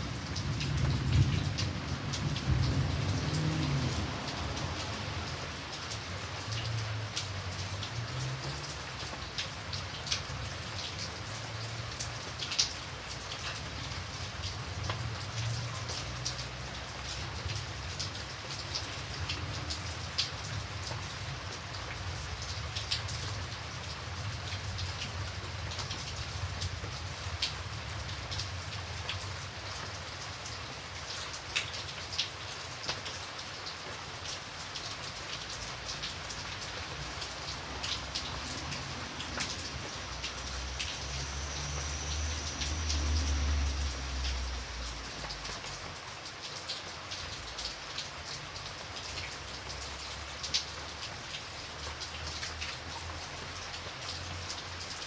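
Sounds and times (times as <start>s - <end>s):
rain drops ticking on a surface: 0.0s - 55.0s.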